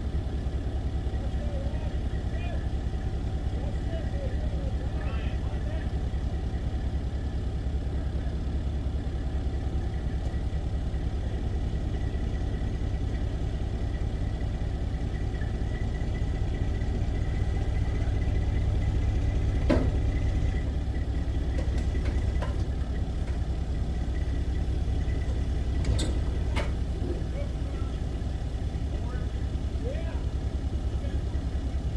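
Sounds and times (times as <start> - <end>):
heavy vehicle engine idling: 0.0 - 31.9.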